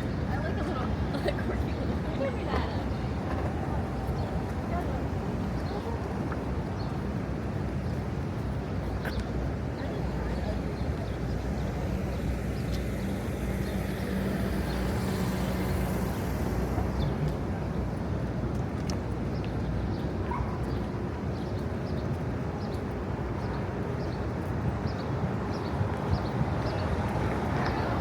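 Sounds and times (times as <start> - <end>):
rumble of street traffic: 0.0 - 28.0.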